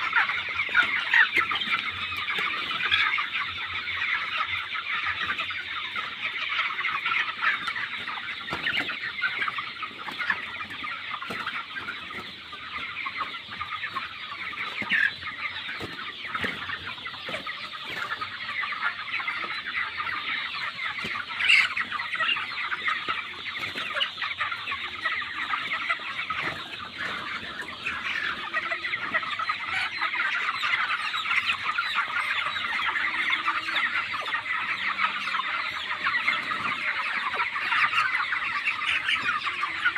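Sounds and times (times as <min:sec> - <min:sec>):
chickens chirping and clucking: 0:00.0 - 0:39.9.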